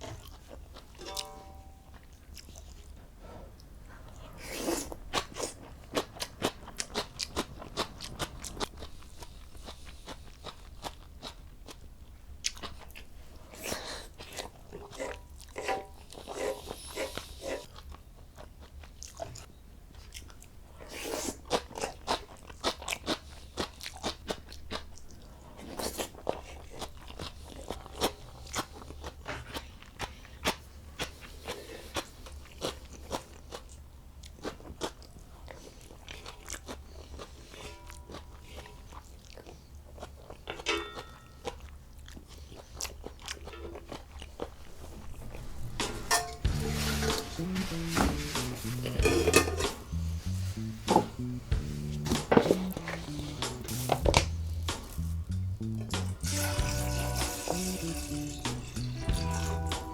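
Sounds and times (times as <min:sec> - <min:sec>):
person chewing crunchy food: 0:00.0 - 0:01.3, 0:01.9 - 0:45.8, 0:49.9 - 0:59.9.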